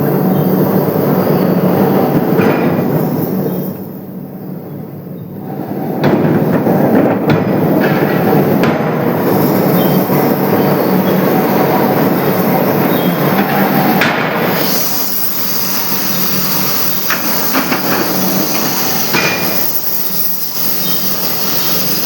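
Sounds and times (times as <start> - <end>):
hiss: 0.0 - 22.0
shop machinery clattering: 0.0 - 22.0.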